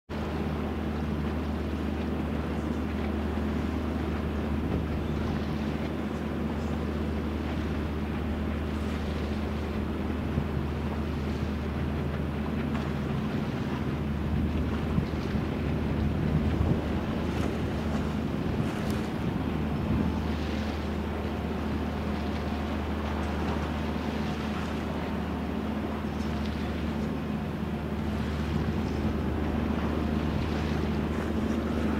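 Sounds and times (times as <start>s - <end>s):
diesel engine droning: 0.2s - 31.9s.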